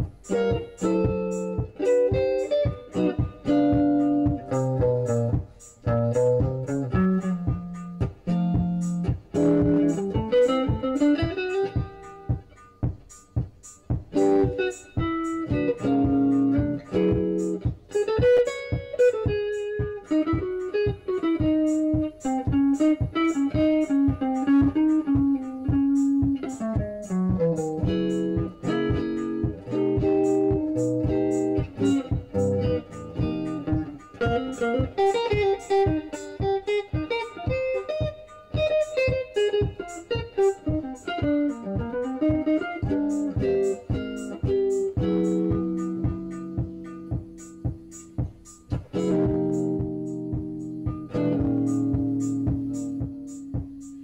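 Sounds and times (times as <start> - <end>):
electric guitar melody: 0.0 - 54.0.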